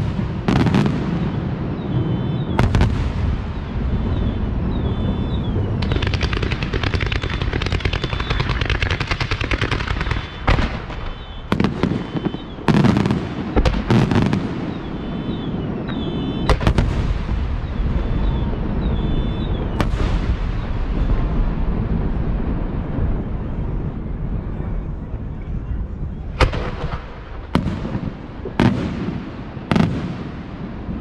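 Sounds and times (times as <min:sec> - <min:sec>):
fireworks crackling: 0:00.0 - 0:25.0, 0:26.3 - 0:31.0.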